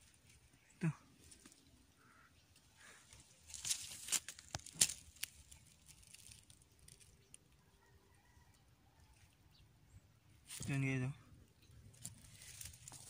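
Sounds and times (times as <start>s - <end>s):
dry leaves and twigs crackling: 0.0s - 8.2s, 10.4s - 13.0s.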